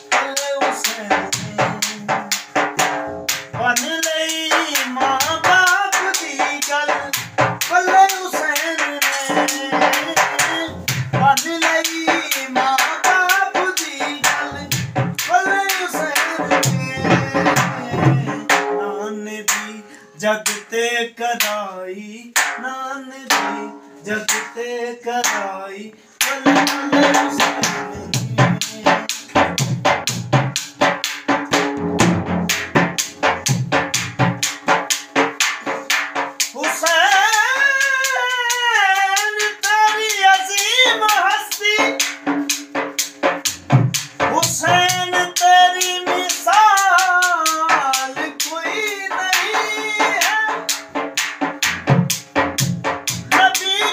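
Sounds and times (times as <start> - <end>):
drum beaten with sticks: 0.0 - 21.7, 22.3 - 53.9.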